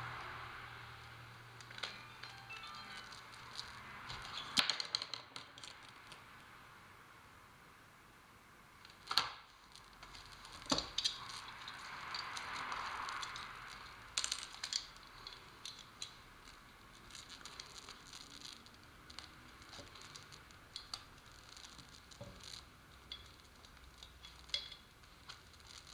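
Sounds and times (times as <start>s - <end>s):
plastic crinkling and rustling: 0.0s - 6.3s, 8.8s - 25.9s.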